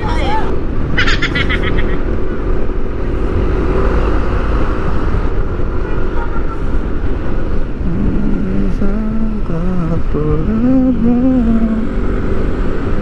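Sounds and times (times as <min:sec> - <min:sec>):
moving car rumble: 0:00.0 - 0:13.0.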